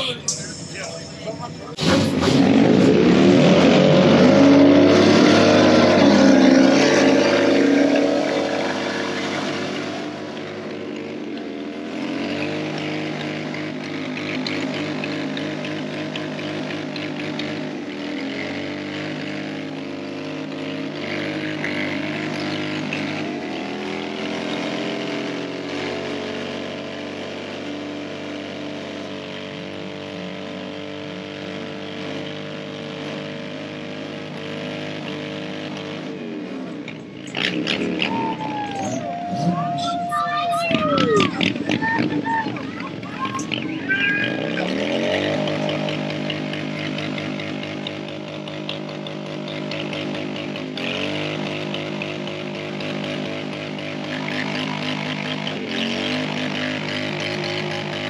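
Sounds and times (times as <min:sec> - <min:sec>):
truck engine revving hard: 0:01.8 - 0:58.0.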